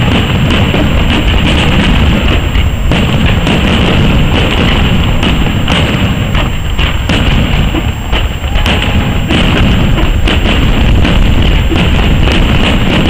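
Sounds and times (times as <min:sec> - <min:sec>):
fireworks bangs: 0:00.0 - 0:13.0
heavy rumble: 0:00.0 - 0:13.0.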